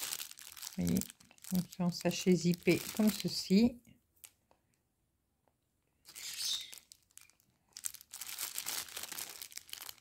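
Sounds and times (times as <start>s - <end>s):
plastic packaging crinkling: 0.0s - 4.5s, 6.0s - 10.0s.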